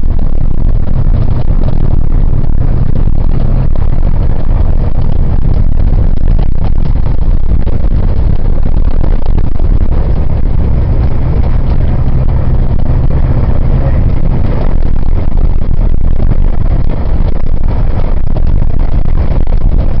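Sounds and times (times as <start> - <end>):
vehicle engine running: 0.0 - 20.0
wind buffeting on microphone: 0.0 - 20.0.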